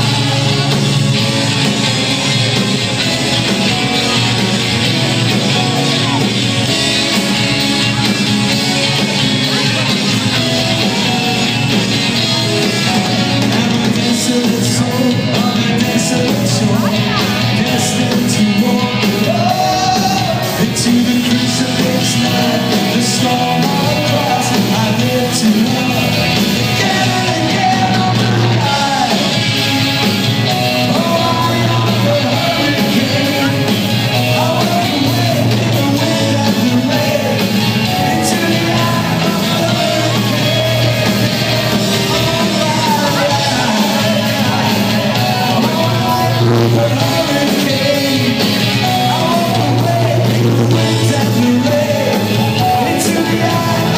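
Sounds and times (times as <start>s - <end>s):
person singing: 0.0s - 53.9s
rock band playing: 0.0s - 53.9s.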